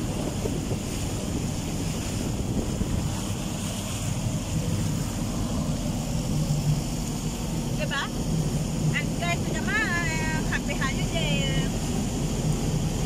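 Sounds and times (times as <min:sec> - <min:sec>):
low rumble: 0:00.0 - 0:13.0
water rushing past boat hull: 0:00.0 - 0:13.0
wind buffeting microphone: 0:00.0 - 0:13.0.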